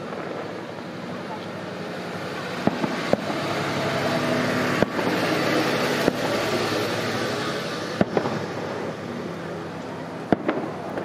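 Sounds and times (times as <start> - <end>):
background noise: 0.0 - 11.0
fireworks bangs: 0.0 - 11.0.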